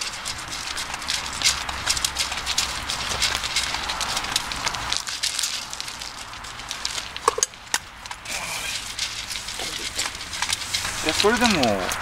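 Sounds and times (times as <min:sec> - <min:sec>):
dogs crunching dry kibble: 0:00.0 - 0:12.0.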